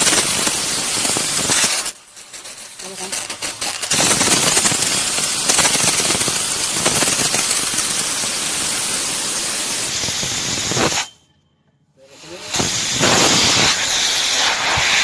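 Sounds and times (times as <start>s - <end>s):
gas hissing from pipe: 0.0s - 11.2s, 12.0s - 15.0s.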